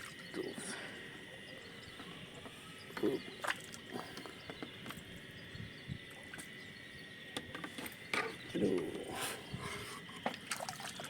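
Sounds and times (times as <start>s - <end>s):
faint high-pitched hum: 0.0s - 11.0s.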